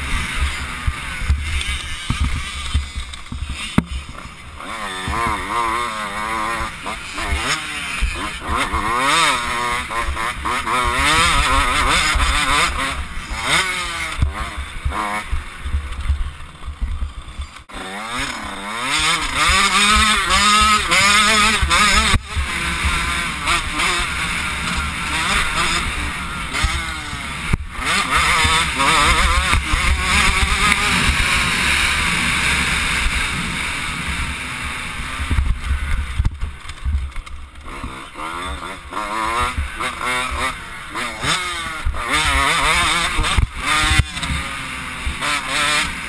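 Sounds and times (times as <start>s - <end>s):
motocross bike engine revving: 0.0s - 46.0s.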